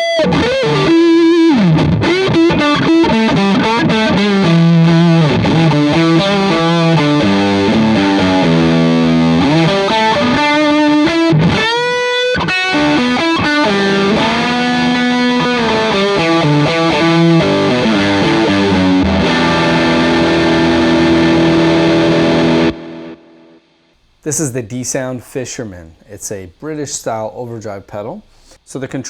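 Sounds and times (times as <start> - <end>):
overdriven electric guitar: 0.0 - 23.8.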